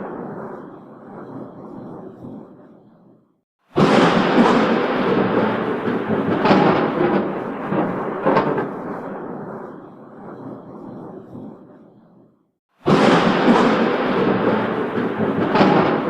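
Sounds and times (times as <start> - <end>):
thunder cracking and rumbling: 0.0 - 16.0.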